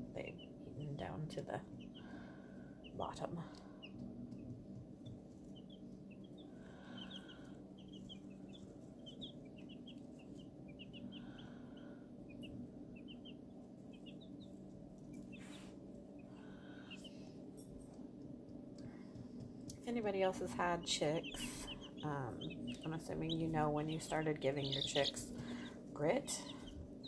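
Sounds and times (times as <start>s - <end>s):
steady low hum: 0.0s - 27.0s
chicks peeping: 0.1s - 27.0s.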